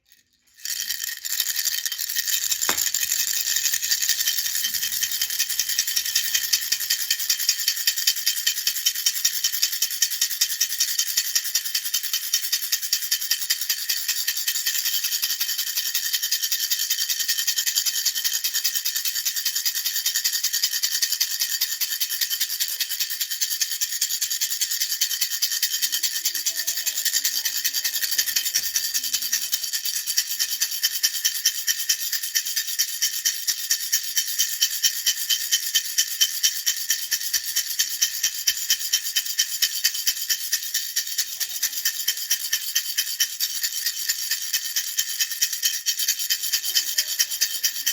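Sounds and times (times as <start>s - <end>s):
baby rattle shaken: 0.0s - 47.9s.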